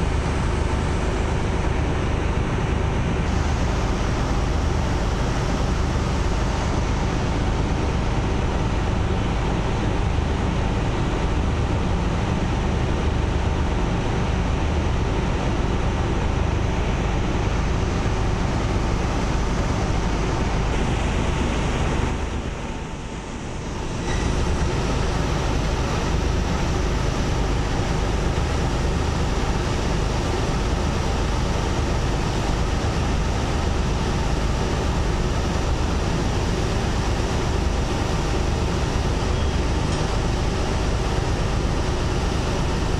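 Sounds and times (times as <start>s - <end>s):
boat engines rumbling: 0.0s - 42.9s
rushing water: 0.0s - 42.9s
wind: 0.0s - 42.9s.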